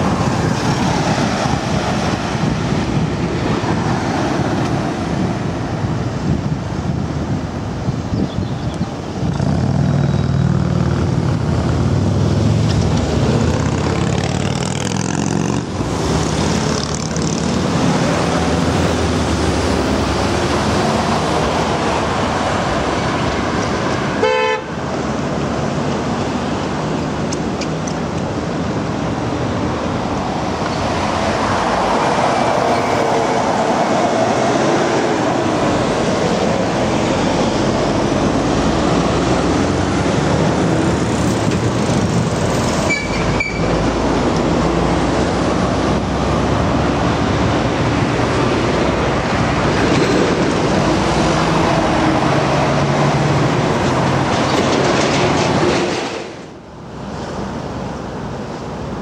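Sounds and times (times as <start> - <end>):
street traffic noise: 0.0 - 59.0.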